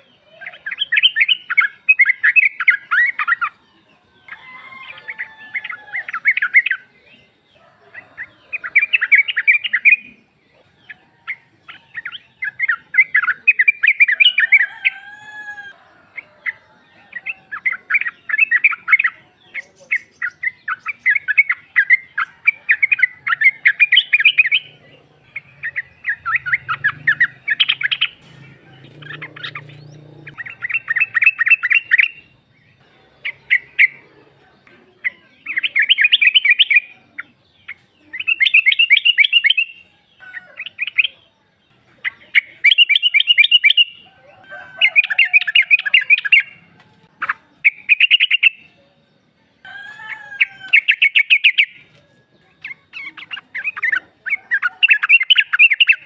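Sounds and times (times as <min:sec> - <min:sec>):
bird chattering: 0:07.9 - 0:15.1, 0:16.1 - 0:48.8, 0:50.0 - 0:56.0.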